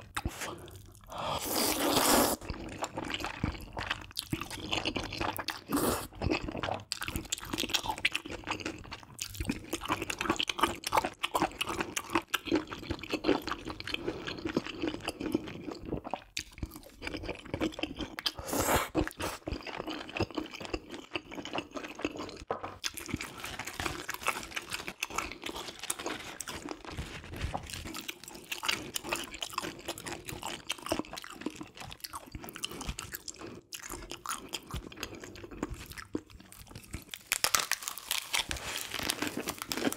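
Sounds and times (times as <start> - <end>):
wet chewing and lip-smacking: 0.0 - 27.0, 27.6 - 38.1.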